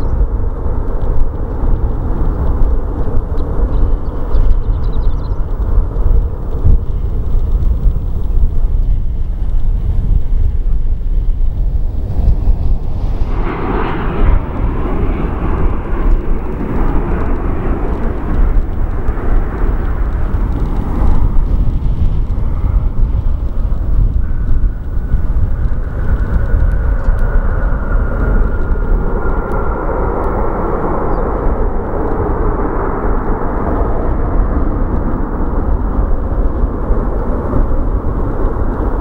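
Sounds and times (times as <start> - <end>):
constant low rumble: 0.0 - 39.0
jet engine noise: 0.0 - 39.0.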